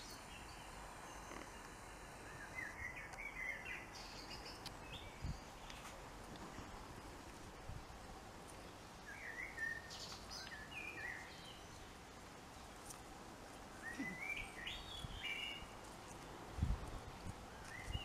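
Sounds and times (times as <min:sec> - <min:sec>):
faint outdoor hush: 0:00.0 - 0:18.0
songbird singing: 0:00.0 - 0:18.0.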